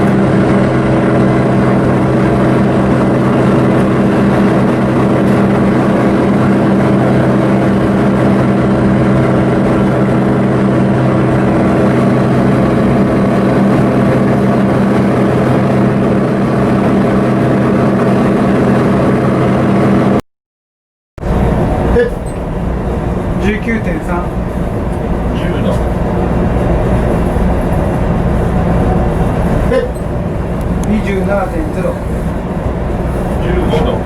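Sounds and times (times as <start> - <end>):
ship diesel engine droning: 0.0 - 20.2, 21.2 - 34.0.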